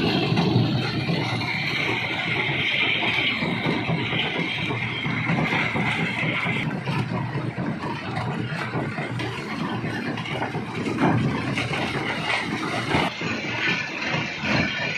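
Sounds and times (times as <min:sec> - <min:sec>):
rock crusher rumbling and clattering: 0:00.0 - 0:14.9.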